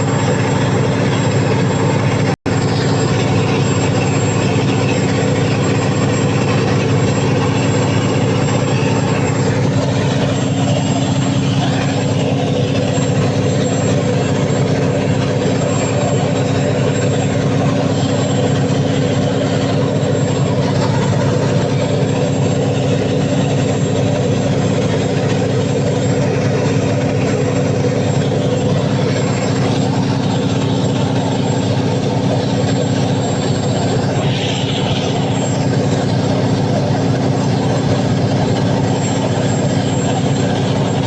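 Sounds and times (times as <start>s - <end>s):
diesel generator engine drone: 0.0s - 41.0s
thin high whine: 0.0s - 41.0s.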